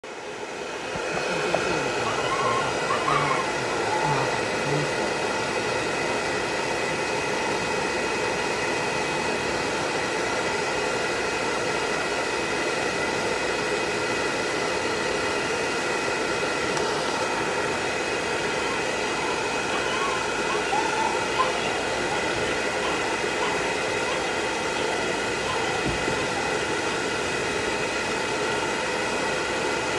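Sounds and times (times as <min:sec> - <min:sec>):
hair dryer blowing: 0:00.0 - 0:29.9.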